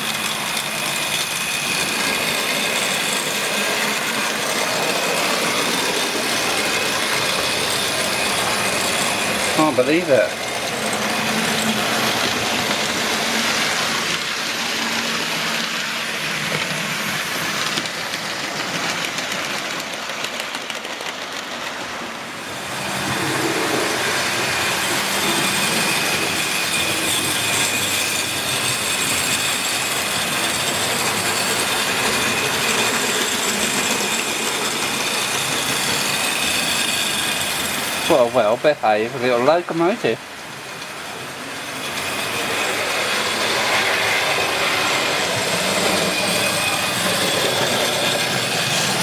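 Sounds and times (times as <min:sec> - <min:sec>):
model train motor whir: 0:00.0 - 0:21.8, 0:22.4 - 0:38.1, 0:41.6 - 0:49.0
wheels rattling over track: 0:00.0 - 0:49.0.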